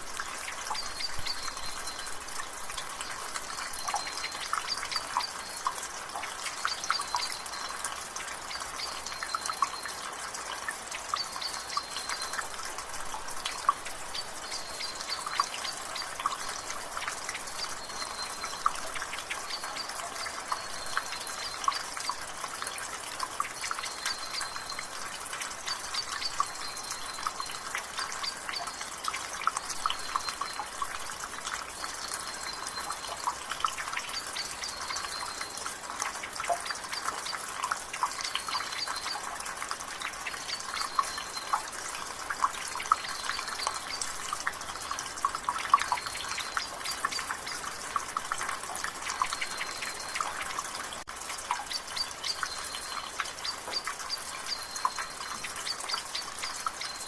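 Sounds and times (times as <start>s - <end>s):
rain hiss: 0.0s - 57.0s
water dripping from gutter: 0.0s - 57.0s.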